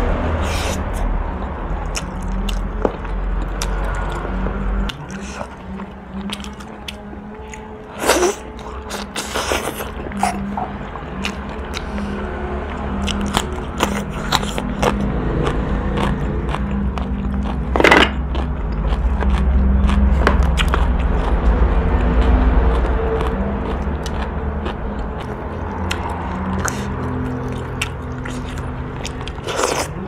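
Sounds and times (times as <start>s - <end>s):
low hum: 0.0s - 30.0s
chewing and biting meat: 1.8s - 10.4s, 11.2s - 30.0s.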